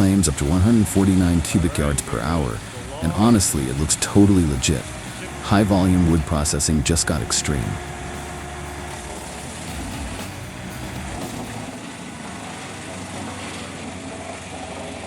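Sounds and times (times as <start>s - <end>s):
woodchipper engine running: 0.0s - 15.0s.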